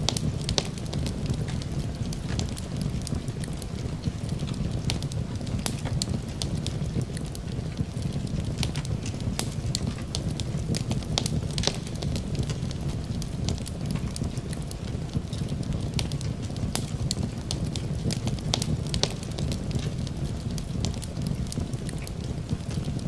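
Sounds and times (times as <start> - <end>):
low rumble of flames: 0.0 - 23.0
wood fire popping and snapping: 0.0 - 23.0.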